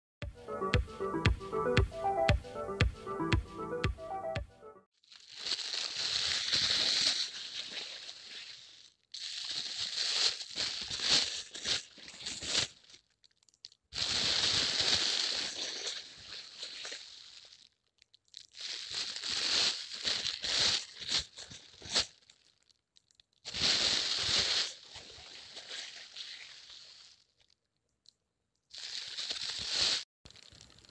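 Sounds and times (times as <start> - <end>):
plastic crumpling and crinkling: 5.0 - 30.9.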